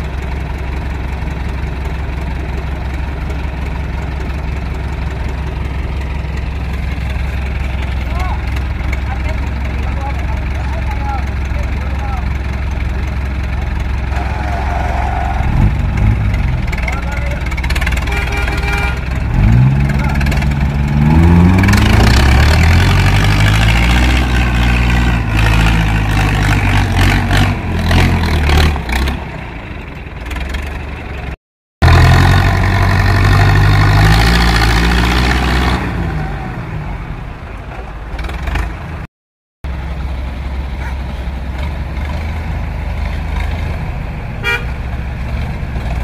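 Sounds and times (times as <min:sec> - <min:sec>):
tractor diesel engine revving: 0:00.0 - 0:46.0.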